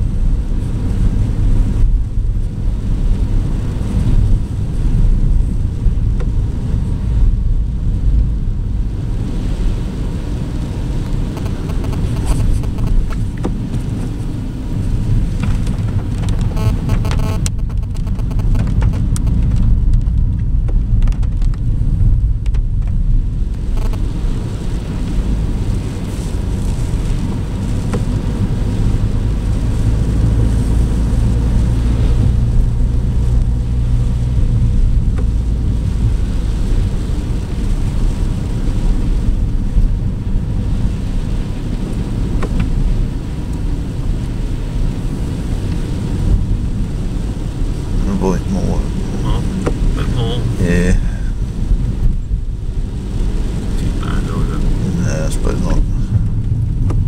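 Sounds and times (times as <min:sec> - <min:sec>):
car engine and road rumble: 0:00.0 - 0:57.0
tyres on wet road: 0:00.0 - 0:57.0.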